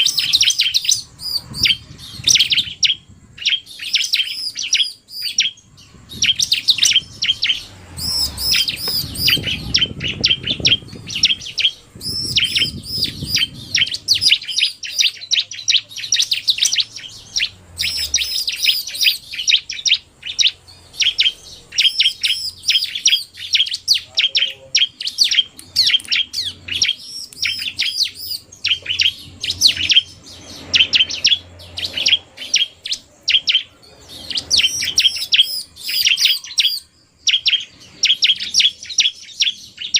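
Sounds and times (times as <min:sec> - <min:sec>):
bird singing: 0:00.0 - 0:39.9
fast sharp high bird chirps: 0:00.0 - 0:39.9.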